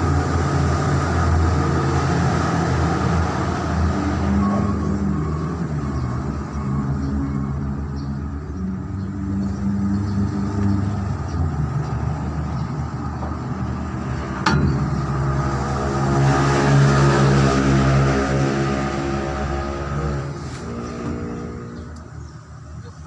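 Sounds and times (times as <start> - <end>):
diesel truck engine revving: 0.0 - 22.5.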